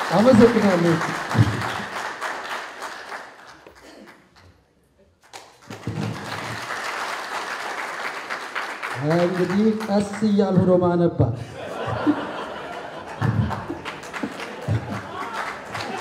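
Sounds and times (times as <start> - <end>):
audience applauding: 0.0 - 4.5, 5.2 - 10.8, 11.7 - 16.0.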